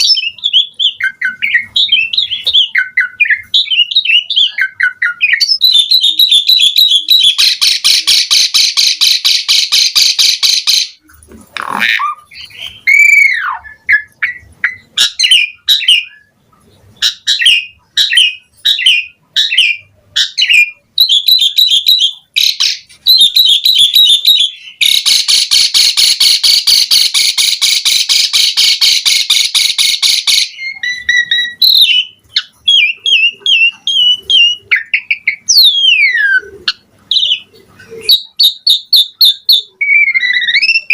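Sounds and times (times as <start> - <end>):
starling singing varied song: 0.0 - 40.9.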